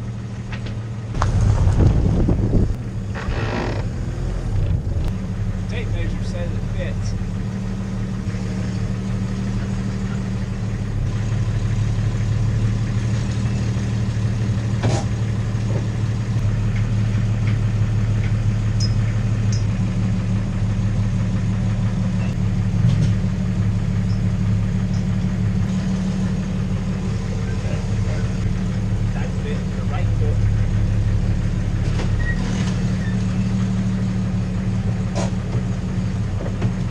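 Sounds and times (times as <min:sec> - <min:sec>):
car engine running at low revs: 0:00.0 - 0:36.9.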